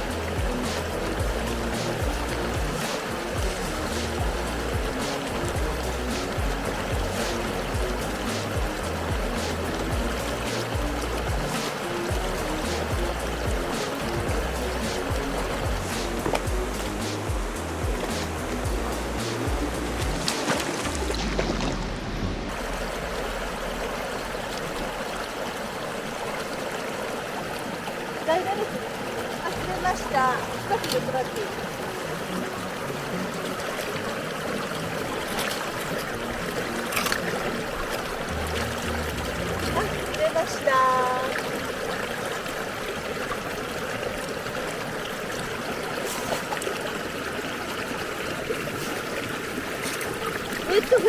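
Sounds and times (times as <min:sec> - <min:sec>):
river water flowing: 0:00.0 - 0:51.0.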